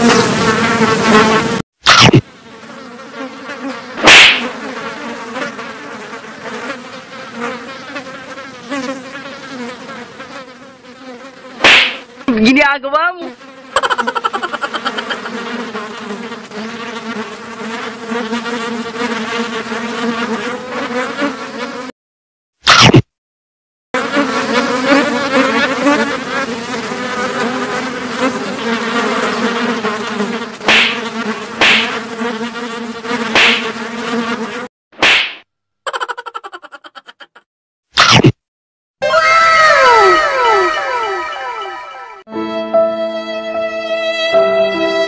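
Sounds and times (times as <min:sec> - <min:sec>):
fly-like buzzing: 0:00.0 - 0:12.5, 0:13.2 - 0:22.0, 0:24.0 - 0:37.4, 0:39.0 - 0:42.3.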